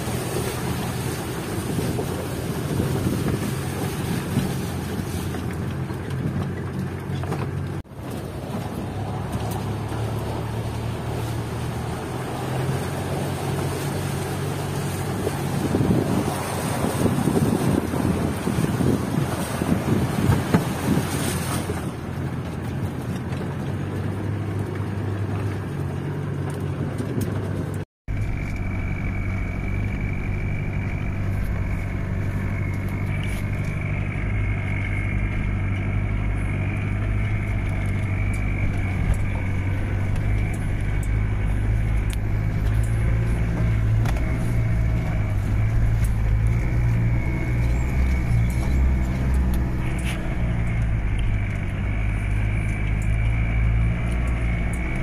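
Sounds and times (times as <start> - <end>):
car engine droning in cabin: 0.0 - 55.0.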